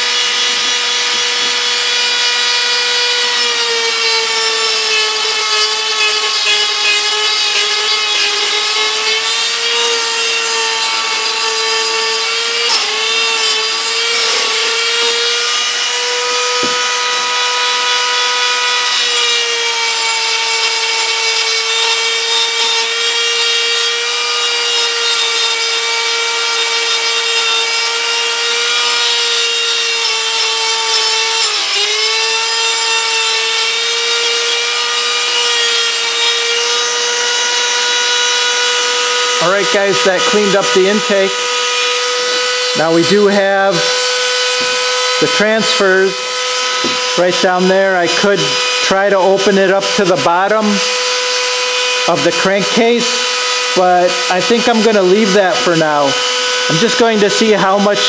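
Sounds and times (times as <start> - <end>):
rotary tool grinding whine: 0.0 - 58.0.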